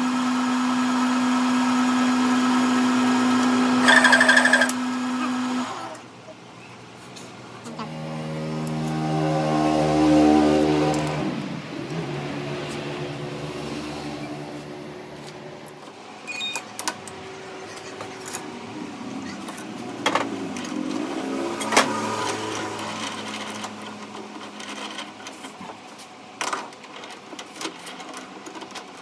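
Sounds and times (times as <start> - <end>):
machine running: 0.0 - 6.0, 7.8 - 25.5.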